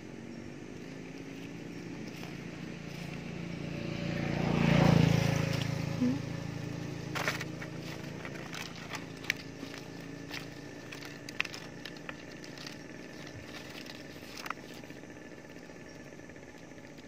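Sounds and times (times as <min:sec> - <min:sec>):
vehicle engine passing by: 0:00.6 - 0:16.0.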